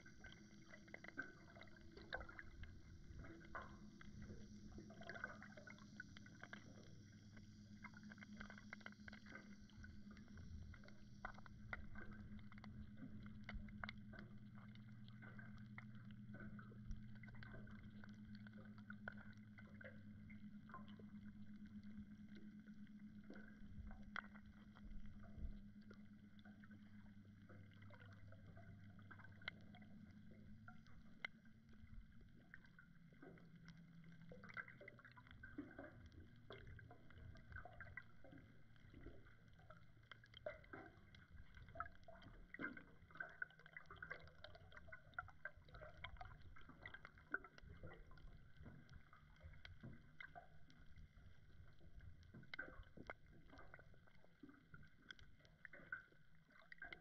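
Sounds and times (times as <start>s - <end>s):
low underwater hum: 0.0s - 57.0s
small underwater clicks and crackles: 0.0s - 57.0s.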